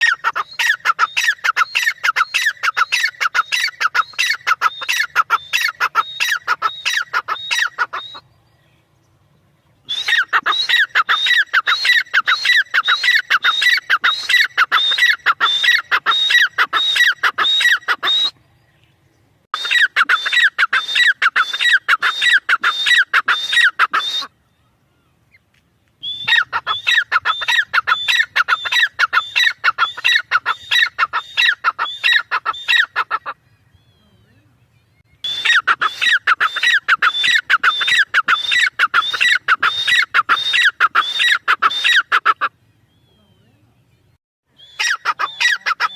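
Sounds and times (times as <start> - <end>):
francolin calling: 0.0 - 25.4, 26.0 - 45.9.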